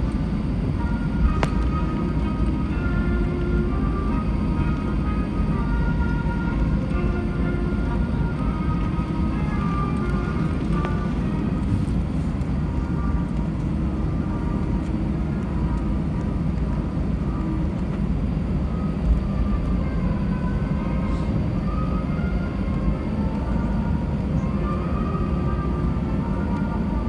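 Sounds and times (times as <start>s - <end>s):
jet engines idling: 0.0s - 27.0s
wheels rolling on taxiway: 0.0s - 27.0s.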